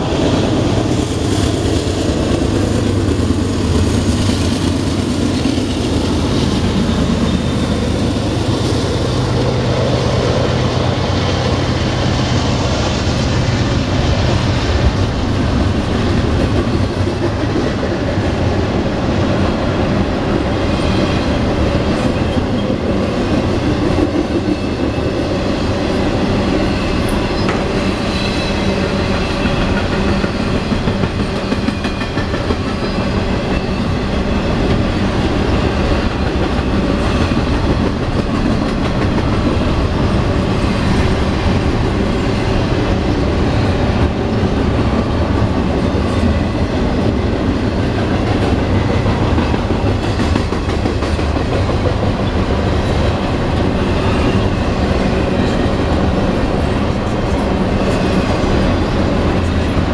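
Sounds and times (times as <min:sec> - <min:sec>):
diesel locomotive drone: 0:00.0 - 0:59.9.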